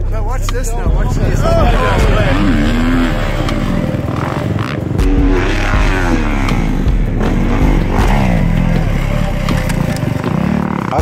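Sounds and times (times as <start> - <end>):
dirt bike engine revving: 0.6 - 11.0.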